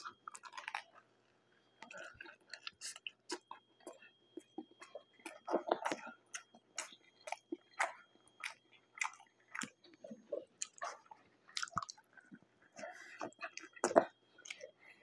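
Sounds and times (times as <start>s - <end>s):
wet chewing of bread: 0.0s - 15.0s.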